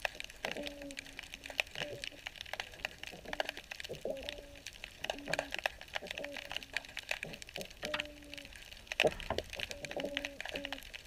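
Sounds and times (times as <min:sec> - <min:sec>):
underwater crackle of clicks: 0:00.0 - 0:11.0.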